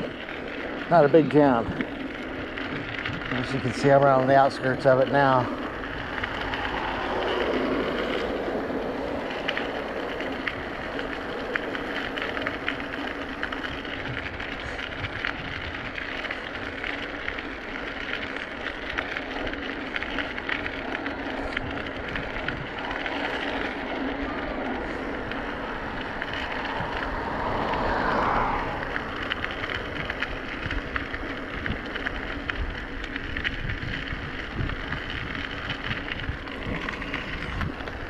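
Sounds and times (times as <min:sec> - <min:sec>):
bicycle tyres rolling on asphalt: 0:00.0 - 0:38.0
wind buffeting microphone: 0:00.0 - 0:38.0.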